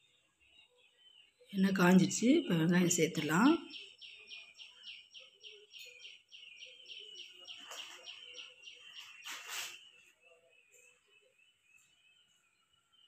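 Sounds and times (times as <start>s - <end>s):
small bird chirping: 0.0s - 2.0s, 2.7s - 13.0s.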